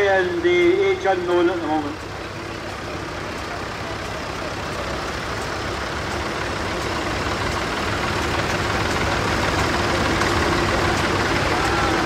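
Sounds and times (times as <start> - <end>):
tractor engines driving past: 0.0 - 12.0.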